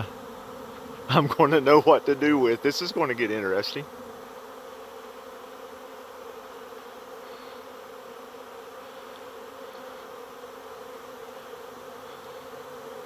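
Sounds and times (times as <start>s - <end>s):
bee swarm buzzing: 0.0s - 13.0s.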